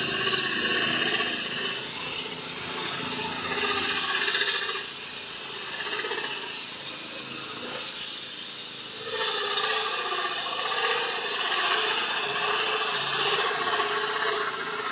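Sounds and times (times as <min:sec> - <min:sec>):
core drill grinding concrete: 0:00.0 - 0:14.9.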